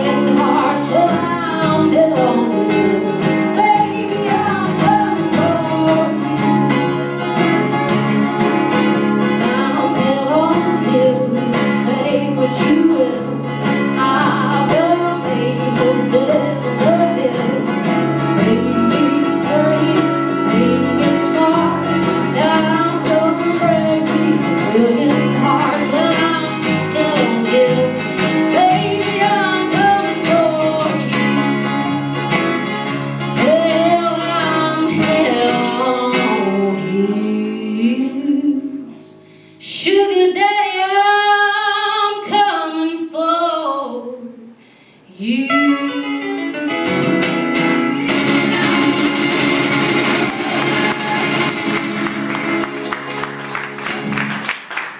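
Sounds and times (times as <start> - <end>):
strummed acoustic guitar: 0.0 - 39.2, 45.5 - 54.5
woman singing country song: 0.0 - 52.6.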